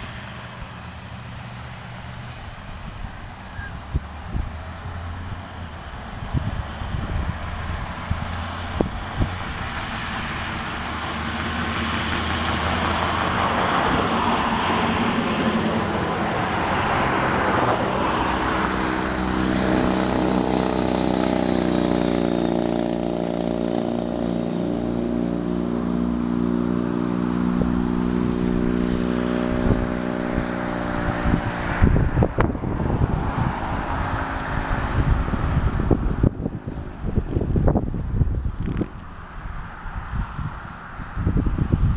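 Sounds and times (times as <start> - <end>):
motorcycle riding by: 3.5 - 41.9.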